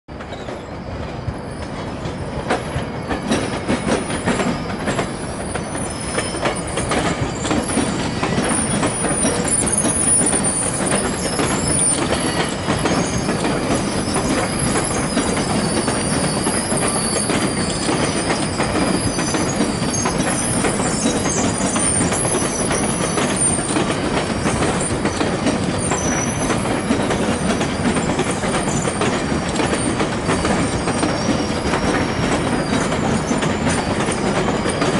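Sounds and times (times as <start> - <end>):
train wheels rolling on rails: 0.1 - 34.9
high wheel squeal: 0.3 - 34.9.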